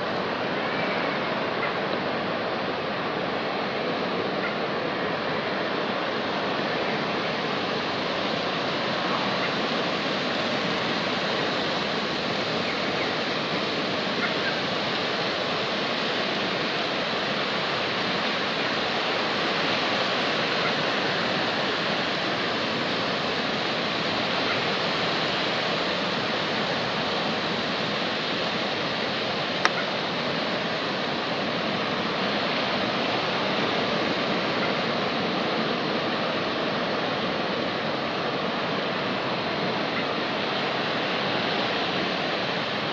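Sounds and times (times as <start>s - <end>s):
water rushing through spillway: 0.0s - 42.9s.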